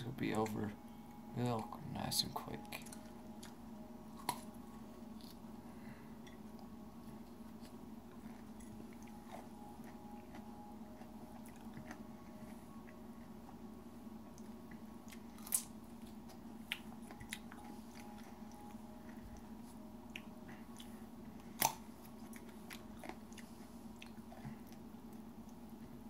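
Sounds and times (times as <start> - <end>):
steady low hum: 0.0 - 26.0
crunchy chewing of chilli peppers: 2.7 - 13.0, 14.3 - 25.9.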